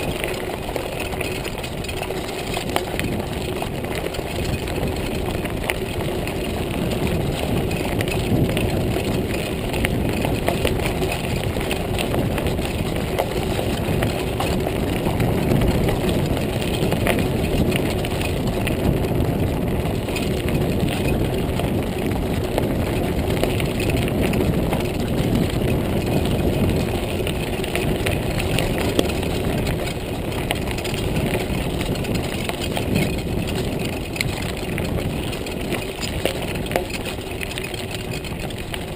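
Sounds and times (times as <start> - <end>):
bike rattles and ticks: 0.0 - 38.9
bike tyres rolling on gravel: 0.0 - 38.9.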